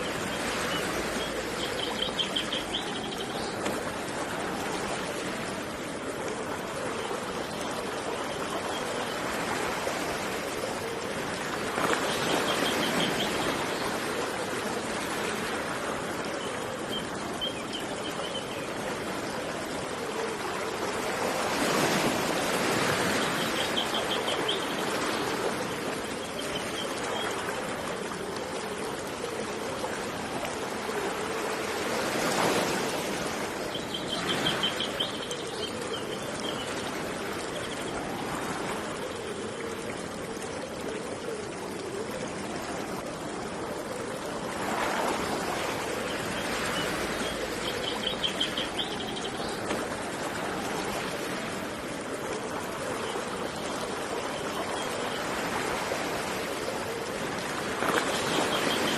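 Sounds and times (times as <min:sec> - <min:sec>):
flowing river water: 0:00.0 - 0:58.9.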